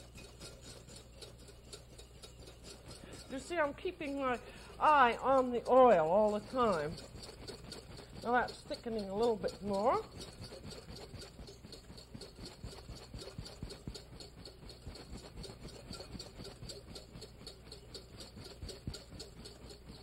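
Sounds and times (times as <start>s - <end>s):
whisk strokes against bowl: 0.0s - 20.0s.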